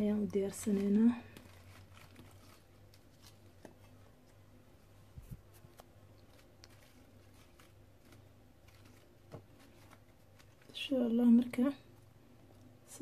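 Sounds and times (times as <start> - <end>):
lettuce leaves tapping and rustling: 0.0 - 4.4, 5.2 - 11.6
faint low room hum: 0.0 - 13.0.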